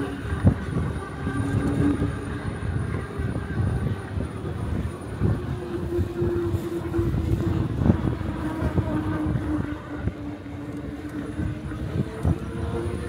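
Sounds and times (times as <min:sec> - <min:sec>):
steady motor hum: 0:00.0 - 0:13.0
wind buffeting: 0:00.0 - 0:13.0.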